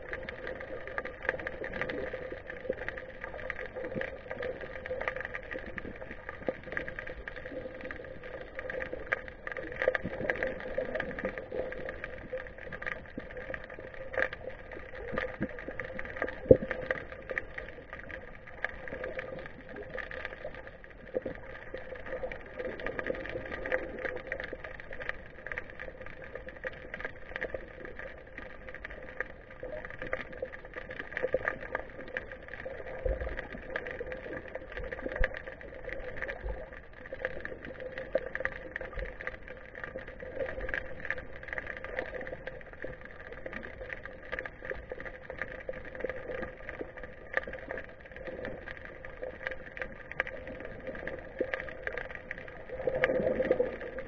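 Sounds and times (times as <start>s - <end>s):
crackle of fine clicks: 0.0s - 54.0s
underwater hum: 0.0s - 54.0s.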